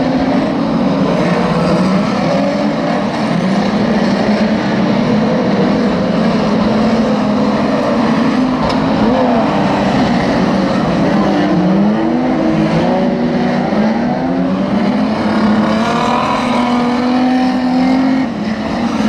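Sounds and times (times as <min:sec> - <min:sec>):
racing car engines revving: 0:00.0 - 0:19.0.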